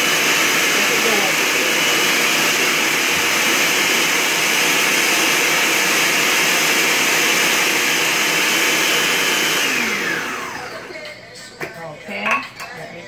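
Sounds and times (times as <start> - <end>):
blender whining at full speed: 0.0 - 11.0.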